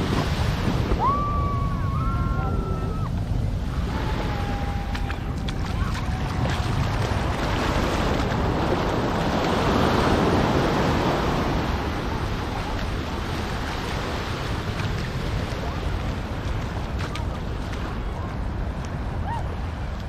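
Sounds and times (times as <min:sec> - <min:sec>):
surf rushing: 0:00.0 - 0:20.0
wind buffeting microphone: 0:00.0 - 0:20.0.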